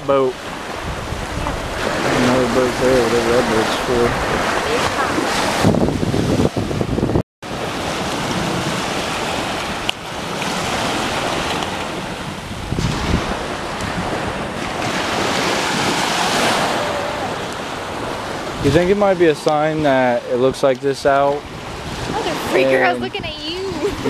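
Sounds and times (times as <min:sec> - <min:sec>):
small waves on sandy beach: 0:00.0 - 0:24.0
wind on microphone: 0:00.0 - 0:24.0.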